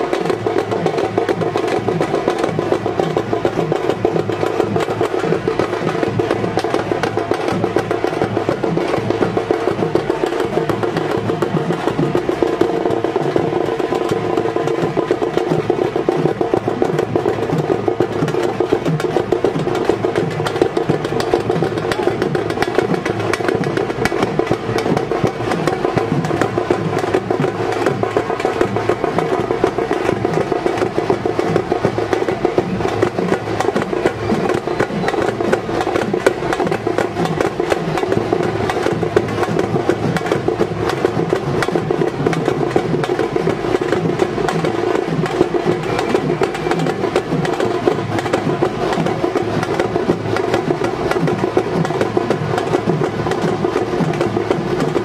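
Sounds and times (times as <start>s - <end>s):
fast continuous drumming: 0.0s - 55.0s.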